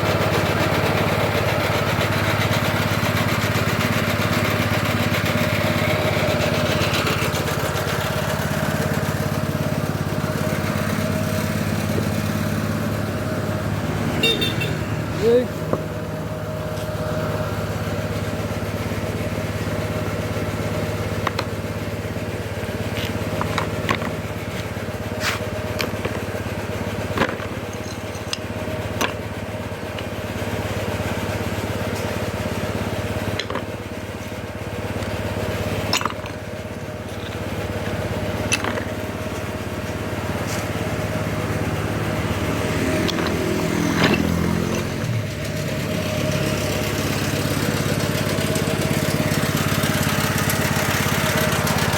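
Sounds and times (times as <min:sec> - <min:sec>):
stone crusher motor hum: 0:00.0 - 0:51.9.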